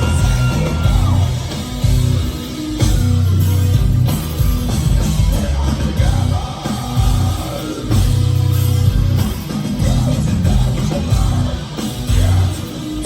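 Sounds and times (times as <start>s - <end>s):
live heavy metal band: 0.0s - 13.0s.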